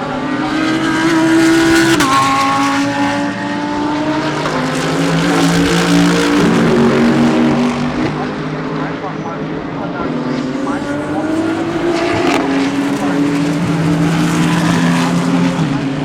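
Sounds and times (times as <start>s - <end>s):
race car engines at speed: 0.0s - 16.0s.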